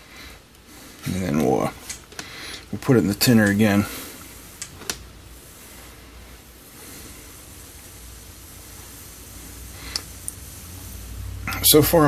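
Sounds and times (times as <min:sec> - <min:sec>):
soldering iron hissing: 0:00.0 - 0:12.0.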